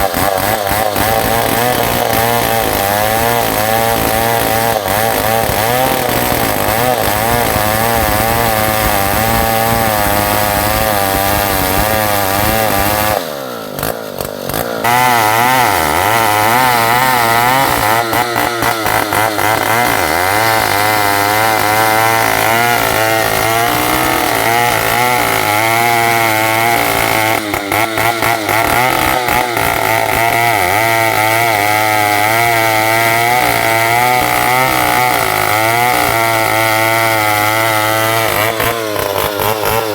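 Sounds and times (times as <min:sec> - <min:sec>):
chainsaw cutting log at high revs: 0:00.0 - 0:39.9.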